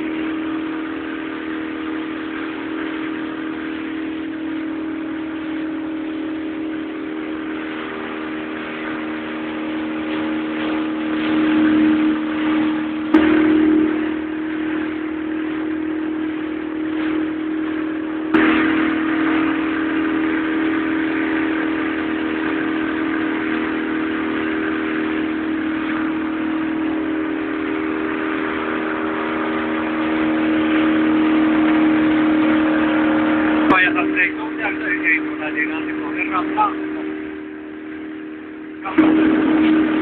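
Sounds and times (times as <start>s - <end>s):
motorboat engine running: 0.0s - 40.0s
water rushing along hull: 0.0s - 40.0s.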